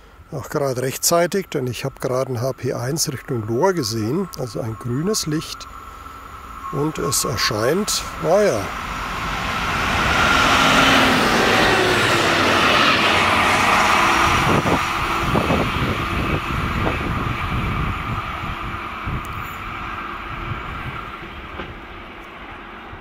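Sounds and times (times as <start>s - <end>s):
rail machine engine and wheels: 0.0s - 23.0s.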